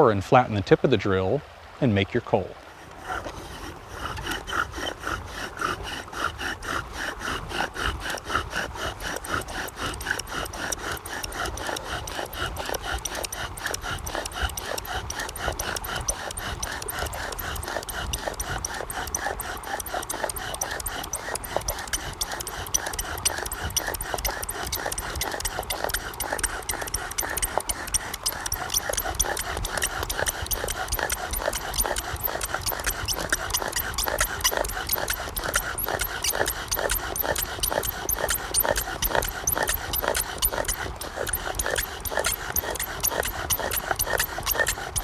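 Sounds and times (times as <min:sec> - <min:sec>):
bow drill spindle squeaking: 0:03.1 - 0:45.0.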